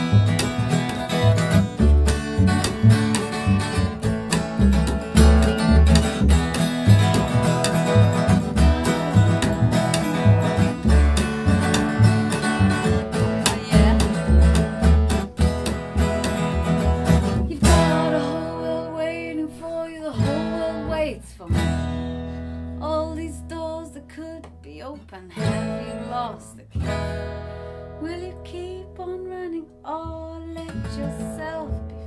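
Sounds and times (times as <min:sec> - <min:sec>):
acoustic guitar strumming: 0:00.0 - 0:23.6, 0:25.4 - 0:28.3
double bass plucking: 0:00.0 - 0:32.0.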